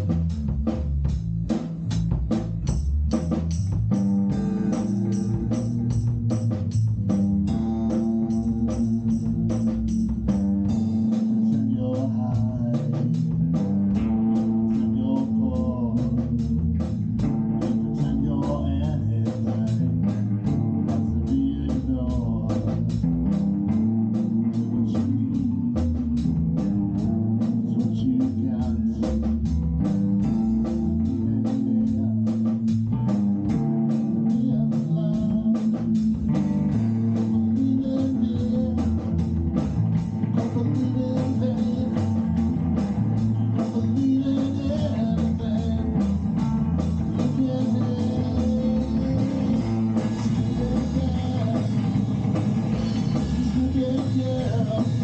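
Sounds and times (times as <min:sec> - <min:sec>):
bass guitar: 0:00.0 - 0:55.0
drums with steady beat: 0:00.0 - 0:55.0
electric guitar: 0:00.0 - 0:55.0.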